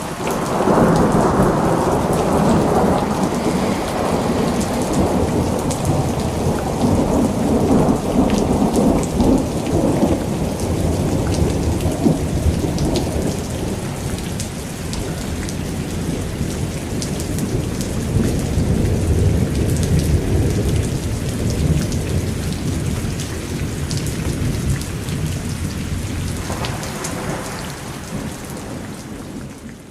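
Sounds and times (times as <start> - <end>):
low rumble of thunder: 0.0 - 29.9
steady rain: 0.0 - 29.9.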